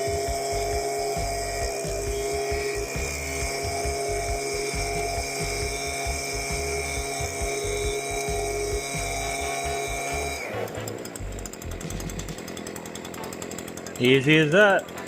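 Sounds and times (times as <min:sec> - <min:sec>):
leaf blower engine running: 0:00.0 - 0:15.0.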